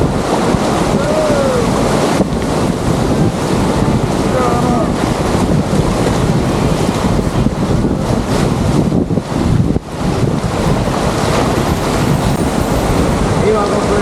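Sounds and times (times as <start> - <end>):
river rapids rushing: 0.0 - 14.0
wind buffeting microphone: 0.0 - 14.0.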